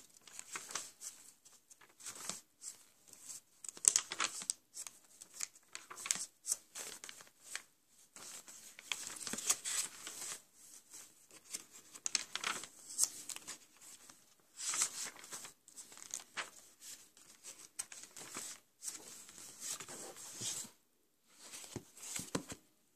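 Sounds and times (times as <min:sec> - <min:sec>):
paper pages rustling: 0:00.0 - 0:20.8, 0:21.4 - 0:22.6.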